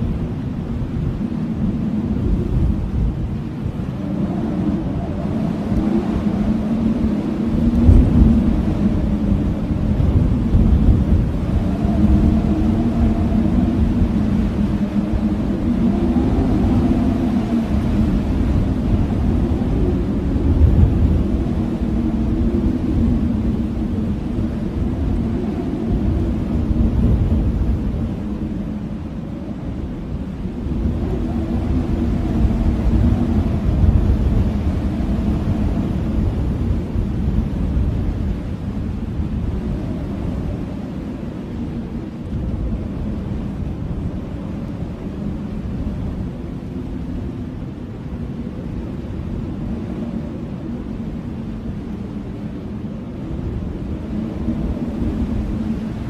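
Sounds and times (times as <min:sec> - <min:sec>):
blizzard wind rumbling: 0:00.0 - 0:56.0
wind howling: 0:00.0 - 0:56.0.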